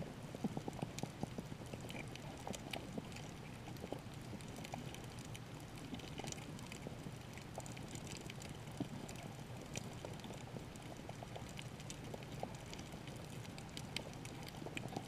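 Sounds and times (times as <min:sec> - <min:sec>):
crackle of underwater clicks: 0:00.0 - 0:15.0
low rumble of moving water: 0:00.0 - 0:15.0.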